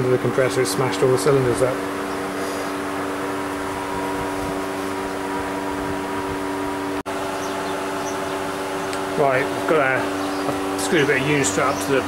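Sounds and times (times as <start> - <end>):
machinery hum with held tones: 0.0 - 12.0.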